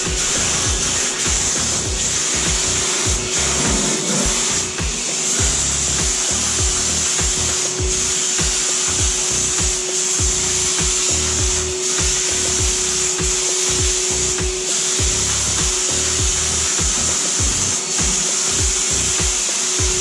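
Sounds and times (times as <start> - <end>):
spray gun hissing: 0.0 - 20.0
turbine whine: 0.0 - 20.0.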